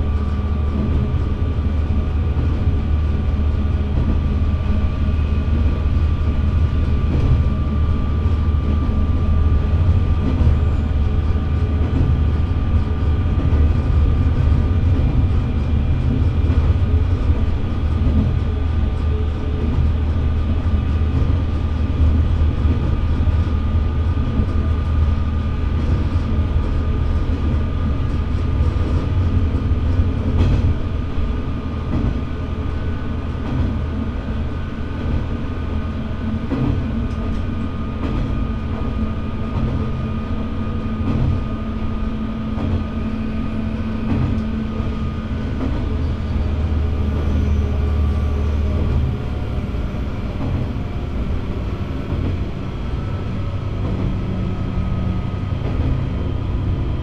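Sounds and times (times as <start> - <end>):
constant whine: 0.0 - 57.0
train engine drone: 0.0 - 57.0
wheels rumbling on rail: 0.0 - 57.0.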